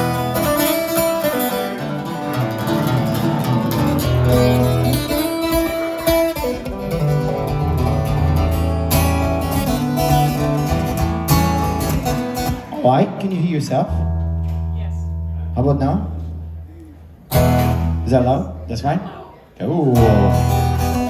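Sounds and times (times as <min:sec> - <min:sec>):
acoustic guitar strumming: 0:00.0 - 0:16.7, 0:17.3 - 0:18.6, 0:19.9 - 0:21.0.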